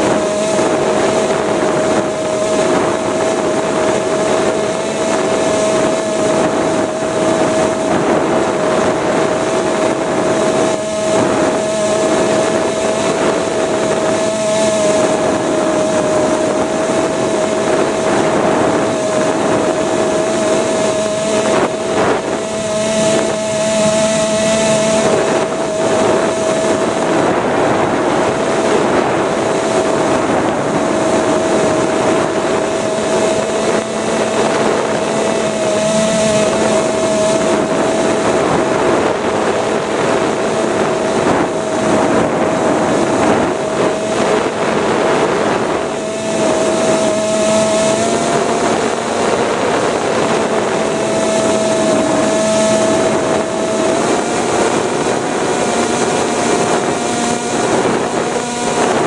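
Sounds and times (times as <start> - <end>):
electric motor whine: 0.0 - 59.0
wind buffeting: 0.0 - 59.0.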